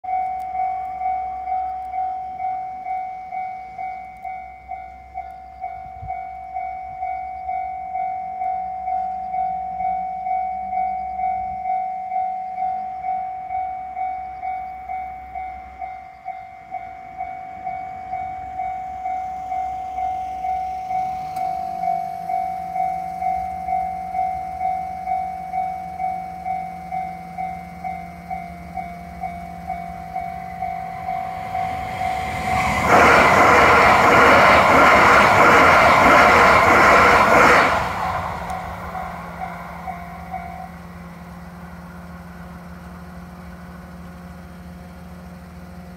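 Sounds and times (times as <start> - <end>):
level crossing warning bell: 0.0 - 45.9
train low hum: 0.0 - 45.9.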